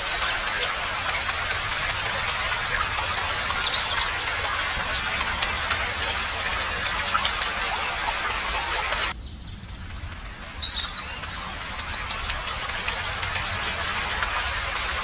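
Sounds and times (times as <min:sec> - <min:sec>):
rain patter: 0:00.0 - 0:15.0
small birds chirping: 0:00.0 - 0:15.0.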